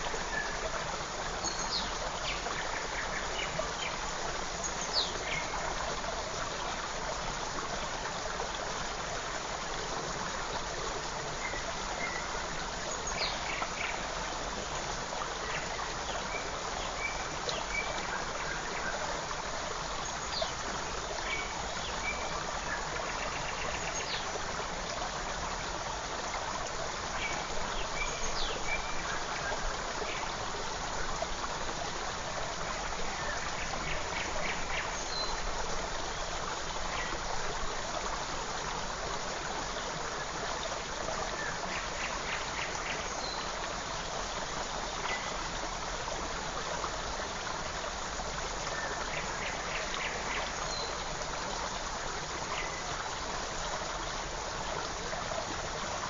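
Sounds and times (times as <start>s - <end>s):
forest stream babbling: 0.0s - 56.0s.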